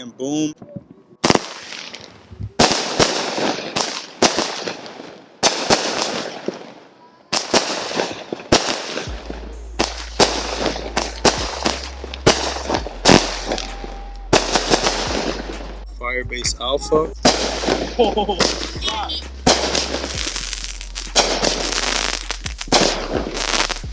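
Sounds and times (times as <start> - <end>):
firework bangs with crackle: 1.2 - 15.8, 17.2 - 23.9.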